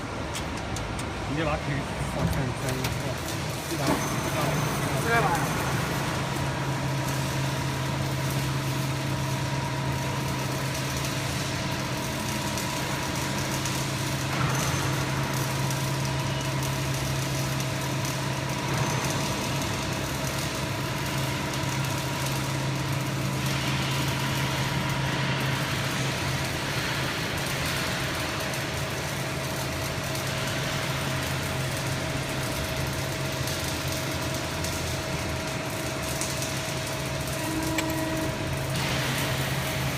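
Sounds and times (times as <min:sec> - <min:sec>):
hydraulic pump machine hum: 0:00.0 - 0:39.9.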